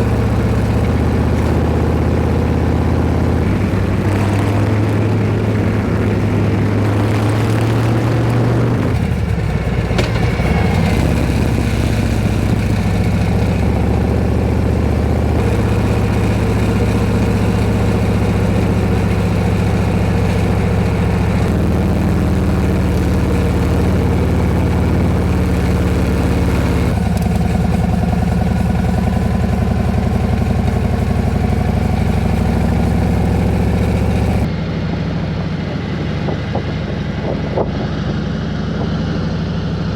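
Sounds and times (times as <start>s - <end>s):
motorcycle engine on the road: 0.0s - 39.9s.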